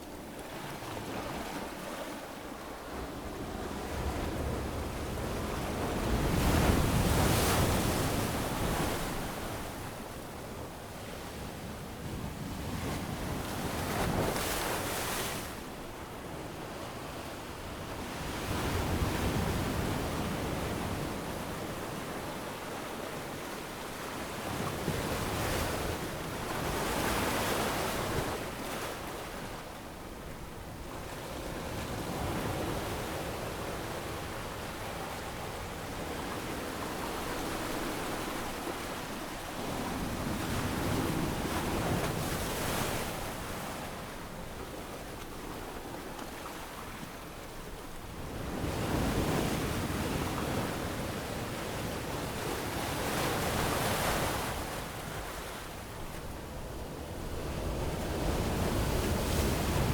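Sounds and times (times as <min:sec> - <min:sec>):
wind: 0:00.0 - 0:59.9.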